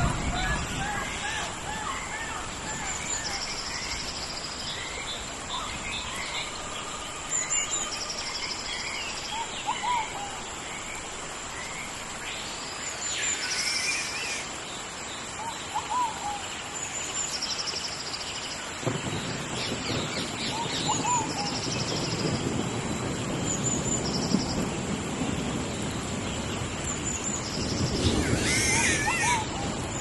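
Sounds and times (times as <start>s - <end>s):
birds calling: 0.0s - 30.0s
steady rain: 0.0s - 30.0s.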